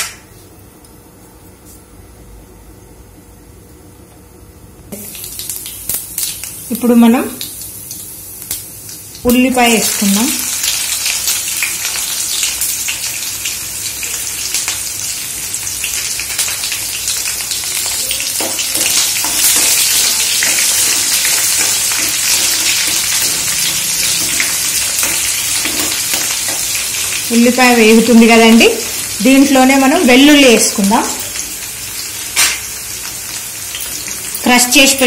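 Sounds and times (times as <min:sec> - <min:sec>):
onions sizzling in hot oil: 0:04.9 - 0:35.0.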